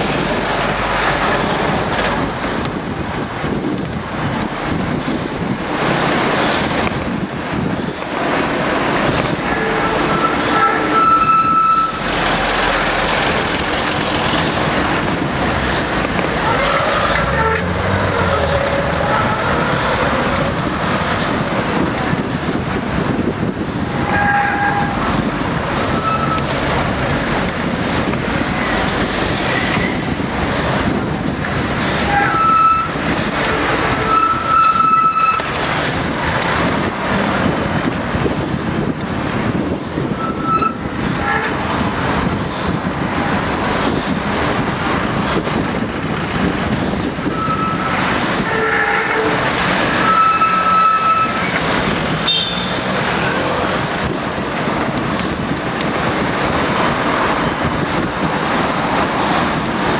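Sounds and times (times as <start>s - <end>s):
street traffic rushing: 0.0s - 59.9s.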